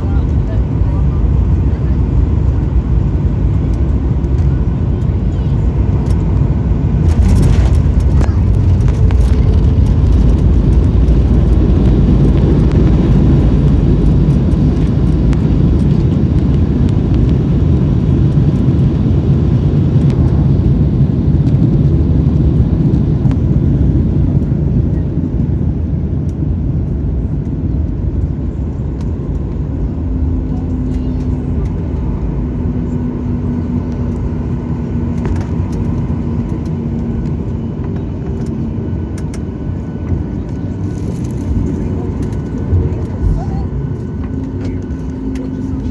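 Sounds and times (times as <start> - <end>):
jet airliner low rumble: 0.0 - 45.9.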